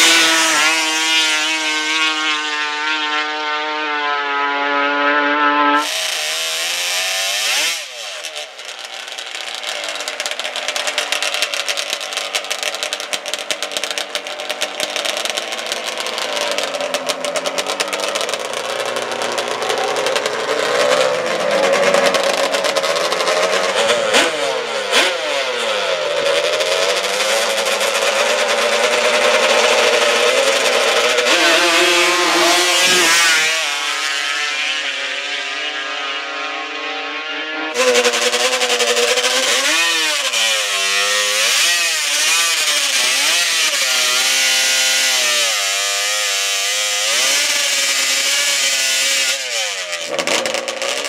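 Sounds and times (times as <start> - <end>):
two-stroke quad engines revving: 0.0 - 51.0.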